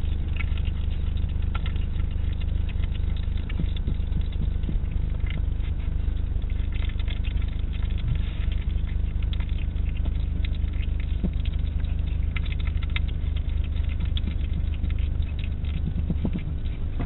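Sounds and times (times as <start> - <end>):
hedgehog chewing and smacking: 0.0 - 17.0
steady low hum: 0.0 - 17.0.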